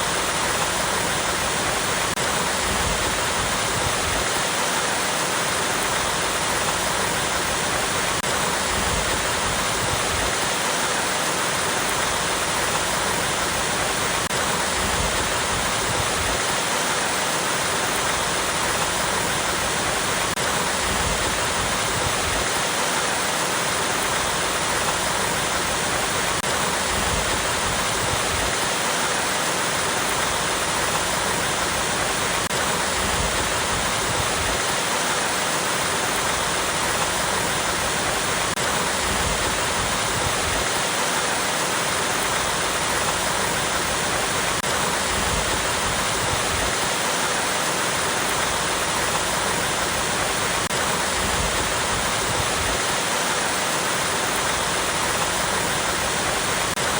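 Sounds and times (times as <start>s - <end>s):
waterfall splashing over rocks: 0.0s - 56.9s.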